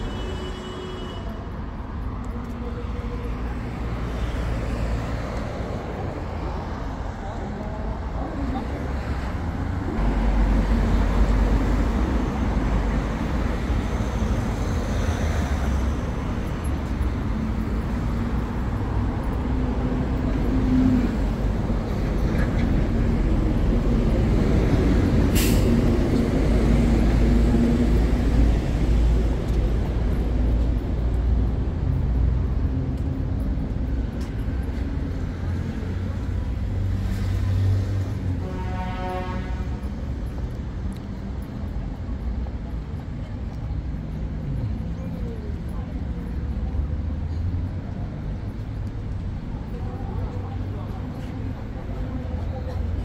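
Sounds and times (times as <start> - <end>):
passing cars and buses: 0.0 - 53.0.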